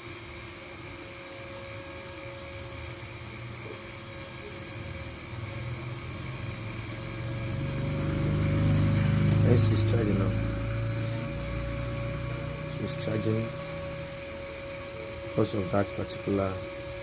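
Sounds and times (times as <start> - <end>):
low mechanical hum with whine: 0.0 - 17.0.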